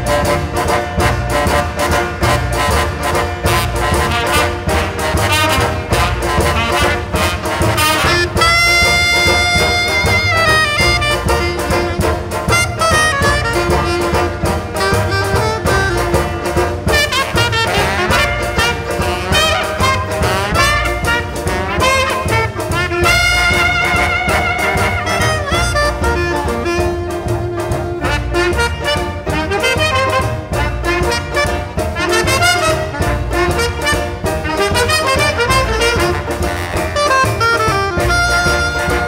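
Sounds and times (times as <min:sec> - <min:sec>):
brass-led jazz music: 0:00.0 - 0:39.0.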